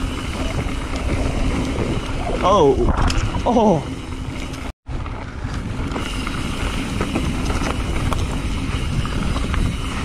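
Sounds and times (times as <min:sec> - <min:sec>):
bike clicks and rattles: 0:00.0 - 0:10.0
tyres and wind rumble: 0:00.0 - 0:10.0.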